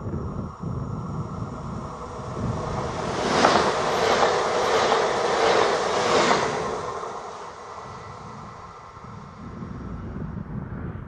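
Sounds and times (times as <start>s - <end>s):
electric train passing: 0.0s - 10.9s.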